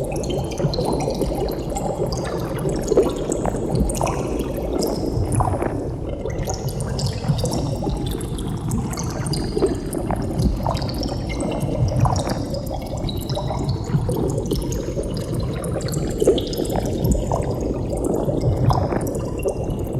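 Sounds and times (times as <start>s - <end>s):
bubble blips and pops: 0.0s - 19.9s
low water rumble: 0.0s - 19.9s
underwater bubbles gurgling: 0.0s - 19.9s.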